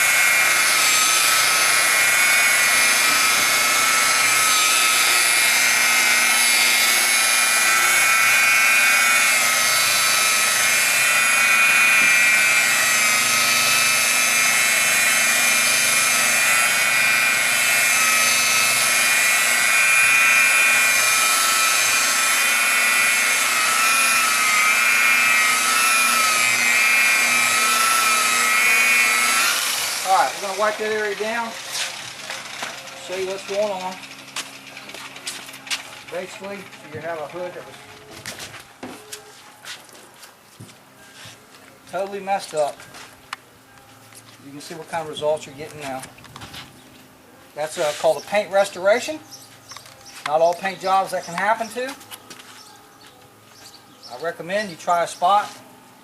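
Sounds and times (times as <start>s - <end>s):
electric polisher motor whine: 0.0s - 39.9s, 40.6s - 56.0s.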